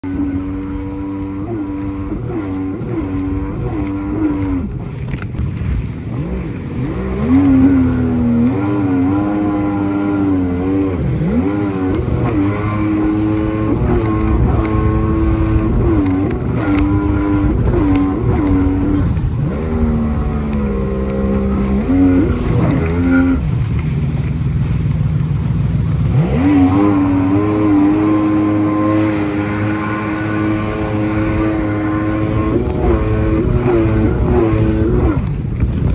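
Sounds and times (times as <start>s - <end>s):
motorboat engine running: 0.0s - 35.9s
water and wind rushing: 0.0s - 35.9s.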